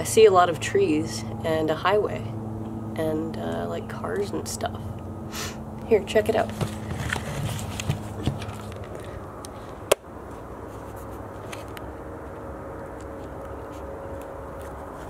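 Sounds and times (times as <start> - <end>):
distant highway traffic hum: 0.0 - 15.0.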